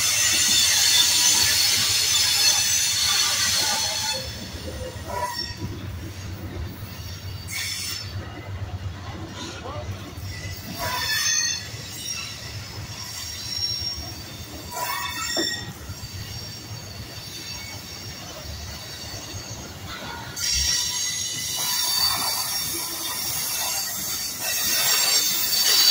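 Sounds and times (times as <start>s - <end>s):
metallic wheel squeal: 0.0s - 8.3s, 9.4s - 25.9s
train wheels rumbling on rails: 0.0s - 25.9s.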